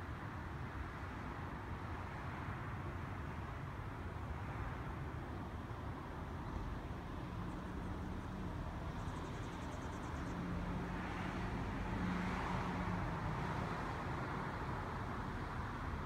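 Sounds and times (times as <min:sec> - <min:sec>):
background traffic noise: 0:00.0 - 0:16.0.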